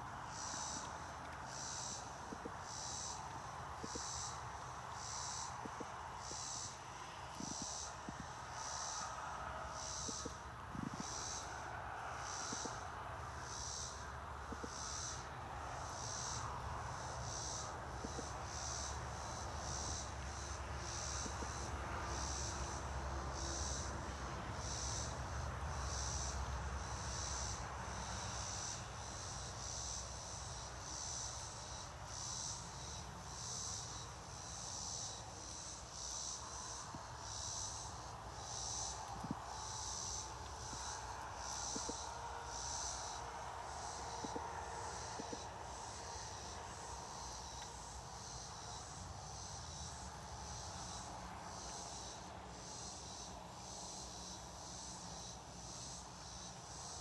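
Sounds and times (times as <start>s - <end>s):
insect chirping: 0.0s - 57.0s.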